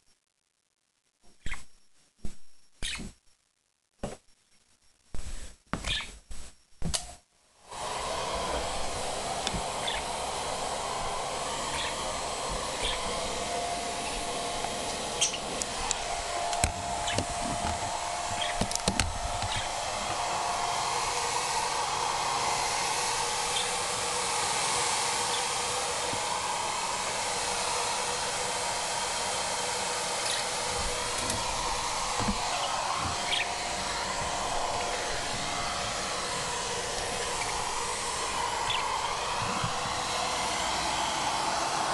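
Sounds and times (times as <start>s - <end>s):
electric blower running: 7.7s - 41.9s.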